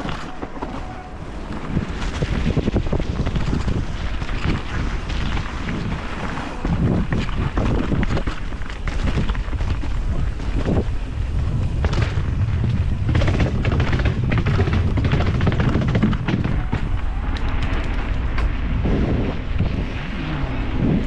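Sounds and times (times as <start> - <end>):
bike knocks and rattles: 0.0 - 19.8
steady low rumble: 0.0 - 21.0
wind buffeting microphone: 0.0 - 21.0.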